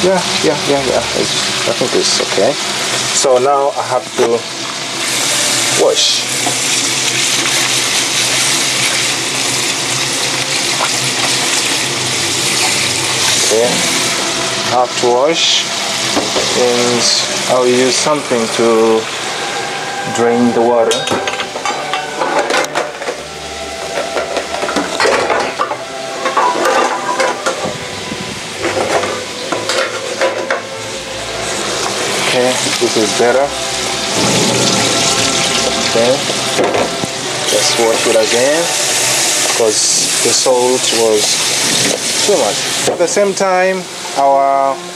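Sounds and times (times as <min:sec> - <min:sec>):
fish sizzling in oil: 0:00.0 - 0:44.9
tap water running into a sink: 0:00.4 - 0:19.4, 0:23.8 - 0:44.8.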